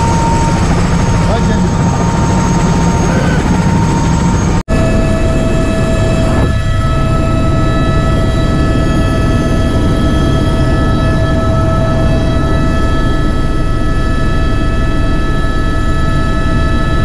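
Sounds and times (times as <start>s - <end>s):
helicopter engine and rotor drone: 0.0s - 17.0s
steady whining tones: 0.0s - 17.0s.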